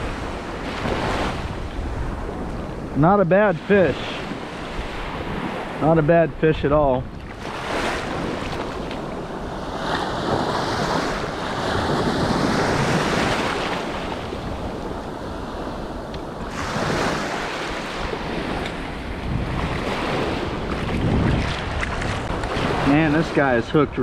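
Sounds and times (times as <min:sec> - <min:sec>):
waves washing onto beach: 0:00.0 - 0:24.0
wind buffeting microphone: 0:00.0 - 0:24.0.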